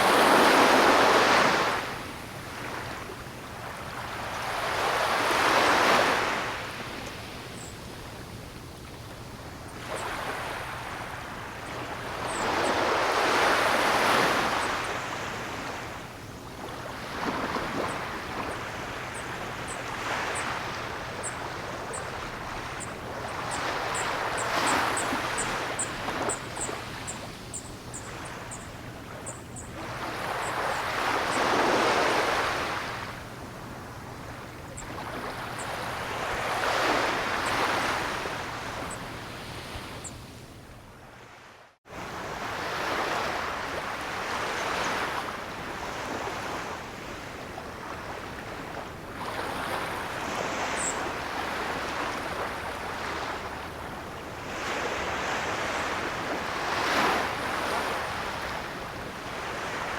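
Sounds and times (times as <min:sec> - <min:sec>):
ocean waves washing onto shore: 0:00.0 - 0:40.1, 0:41.3 - 0:59.9.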